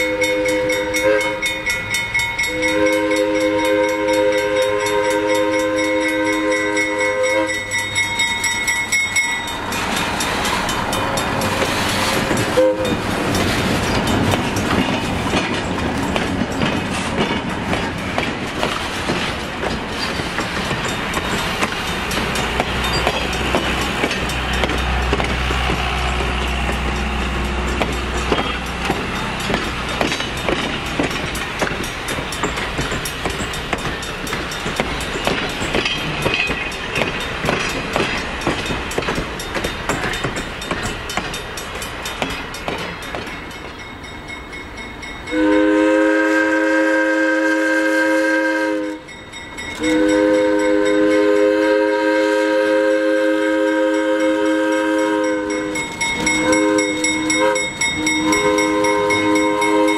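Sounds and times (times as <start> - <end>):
train rumble: 0.0 - 59.9
train wheels clacking: 0.0 - 59.9.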